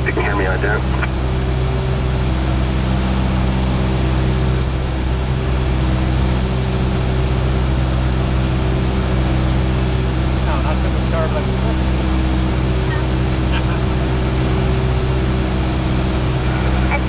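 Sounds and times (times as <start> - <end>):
airplane engine humming: 0.0 - 17.0.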